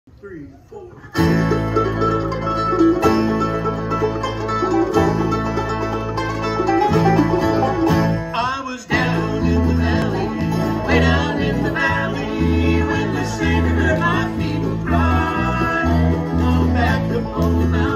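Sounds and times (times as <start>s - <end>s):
bluegrass band playing: 1.0s - 17.9s
bass guitar notes: 1.2s - 17.9s.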